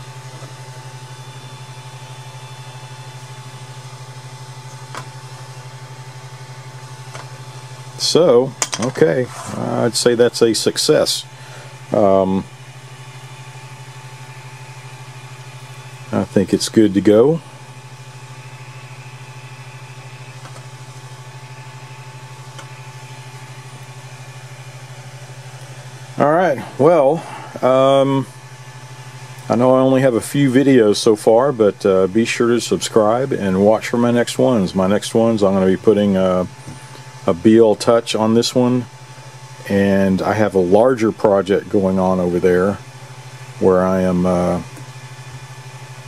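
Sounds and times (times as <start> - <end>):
cooling fans humming: 0.0 - 46.0
faint high whine: 0.0 - 46.0.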